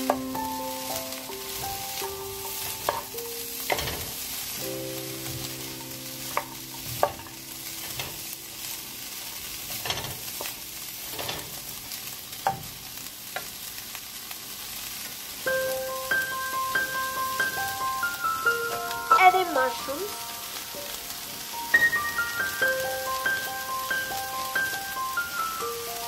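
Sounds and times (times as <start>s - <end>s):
vegetables sizzling in pan: 0.0s - 26.0s.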